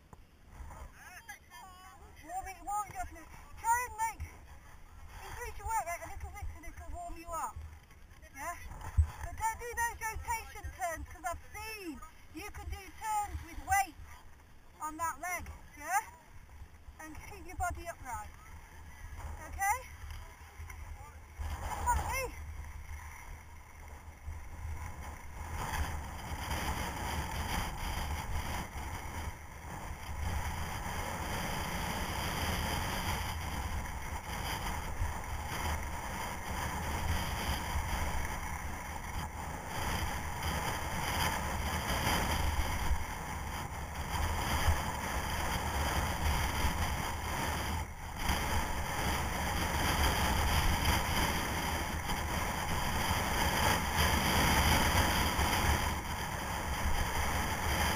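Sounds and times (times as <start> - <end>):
skis carving on packed snow: 0.0 - 57.9
wind on microphone: 0.0 - 57.9.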